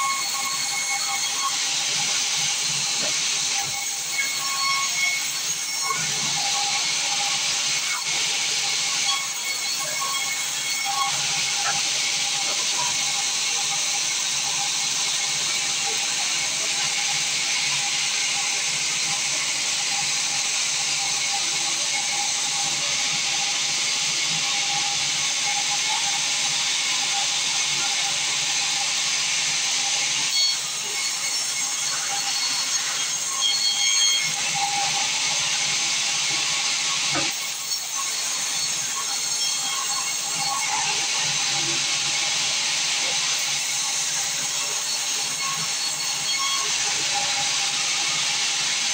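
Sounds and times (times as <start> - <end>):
sawmill machinery hissing: 0.0 - 48.9.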